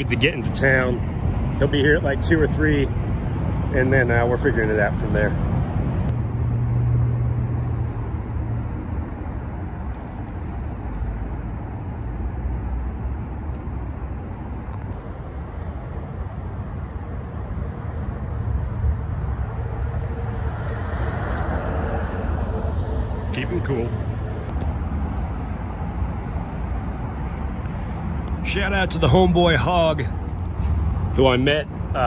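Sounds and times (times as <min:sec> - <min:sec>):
road traffic passing: 0:00.0 - 0:32.0
vehicle engine hum: 0:00.0 - 0:32.0.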